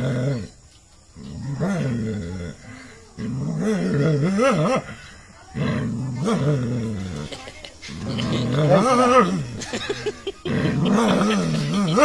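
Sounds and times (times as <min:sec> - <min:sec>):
dog growling: 0:00.0 - 0:12.0.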